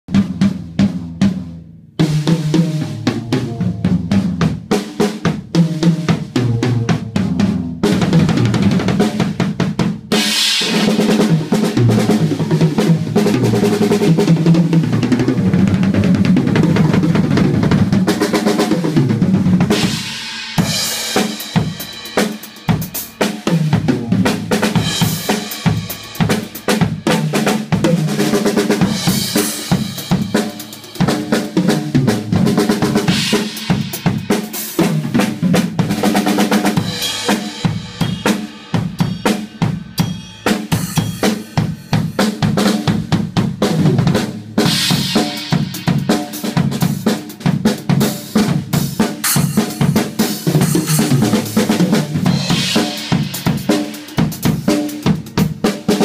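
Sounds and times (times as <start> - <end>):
drum kit groove: 0.0 - 56.0.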